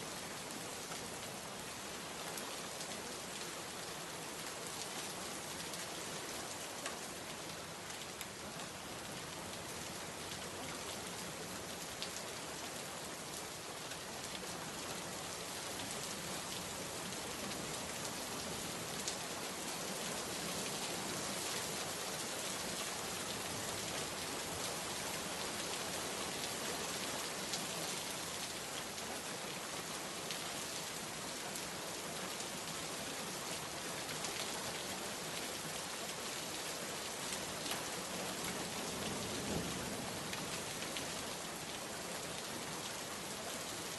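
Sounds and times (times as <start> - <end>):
steady rain pattering: 0.0 - 43.9.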